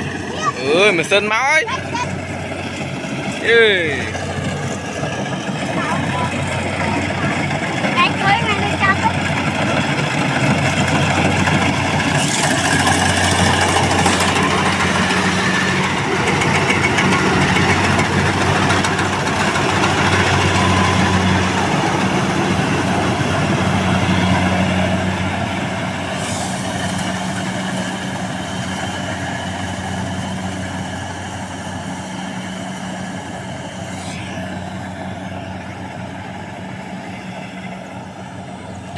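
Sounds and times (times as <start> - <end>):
combine harvester engine humming: 0.0 - 38.9.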